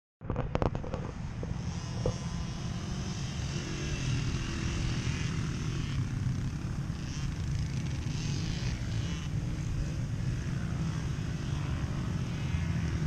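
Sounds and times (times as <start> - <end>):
dirt bike engine buzzing: 0.3 - 13.0.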